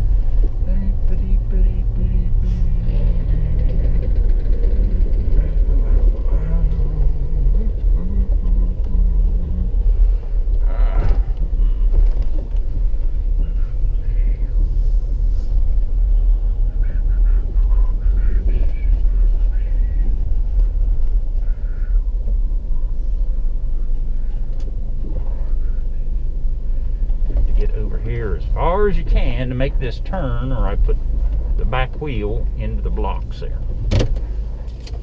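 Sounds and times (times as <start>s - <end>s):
car driving from inside cabin: 0.0s - 35.0s.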